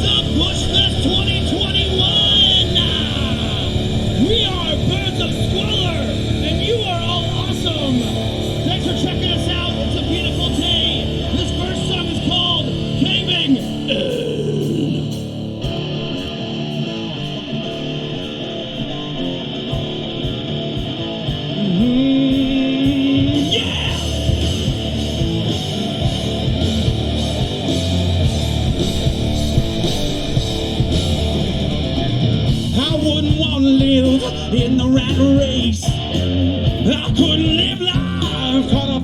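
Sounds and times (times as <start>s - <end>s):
electric guitar: 0.0s - 39.0s
live rock band playing: 0.0s - 39.0s.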